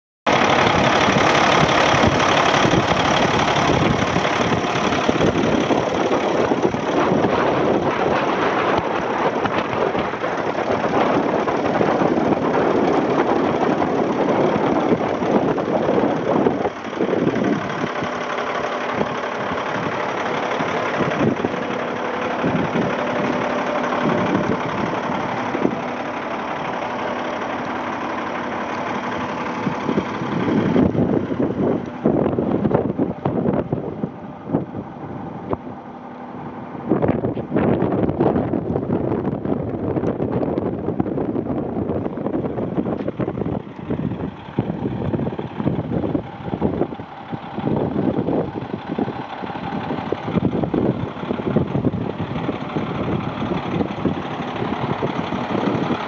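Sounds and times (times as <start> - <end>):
diesel truck engine idling: 0.3 - 56.0.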